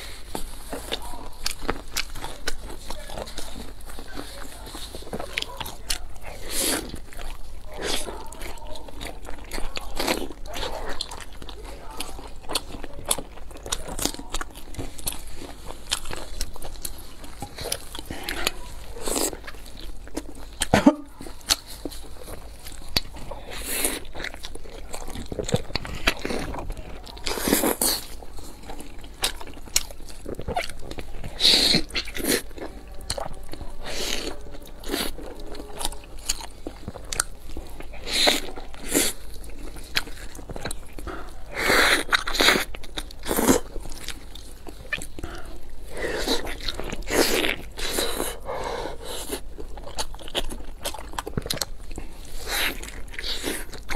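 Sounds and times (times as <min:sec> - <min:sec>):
crunchy bites: 0:00.0 - 0:53.9
wet chewing of dumpling: 0:00.0 - 0:53.9.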